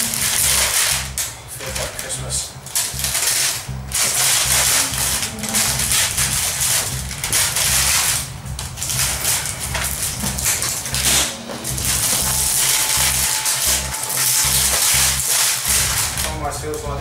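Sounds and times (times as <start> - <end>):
background music with bass line: 0.0 - 17.0
plastic shrink-wrap crinkling: 0.0 - 17.0.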